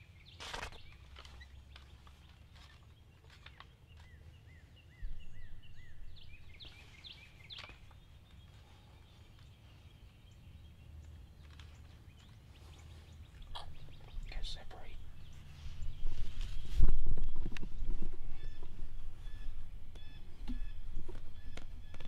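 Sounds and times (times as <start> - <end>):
outdoor field ambience: 0.0 - 22.0.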